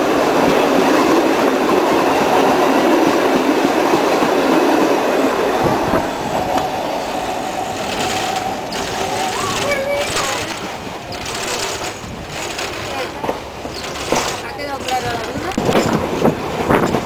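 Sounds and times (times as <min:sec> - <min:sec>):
train carriages clattering past: 0:00.0 - 0:17.0.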